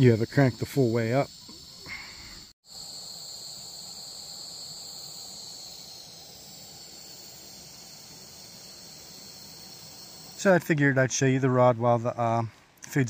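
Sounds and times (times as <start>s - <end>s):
high-pitched insect chorus: 0.0s - 11.7s.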